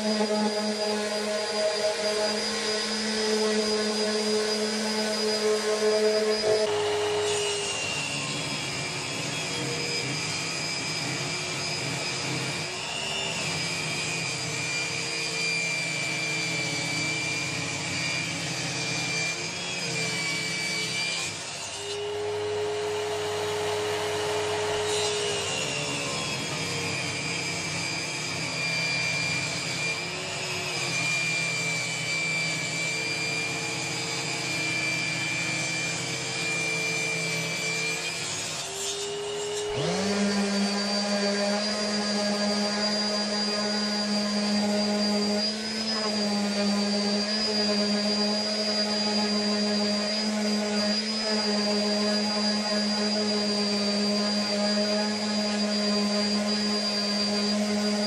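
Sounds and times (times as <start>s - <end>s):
table saw ripping wood: 0.0s - 58.0s.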